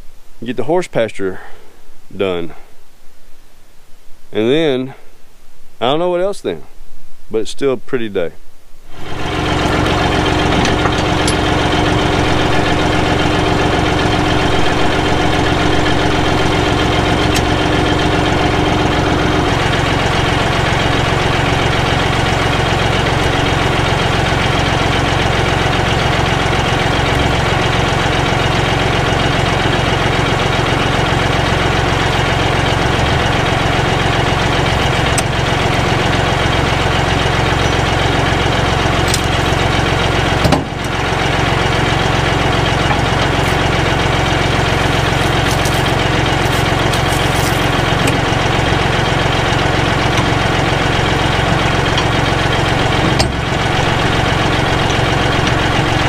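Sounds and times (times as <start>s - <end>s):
steady hum: 8.2s - 56.0s
tractor diesel engine idling: 8.9s - 56.0s.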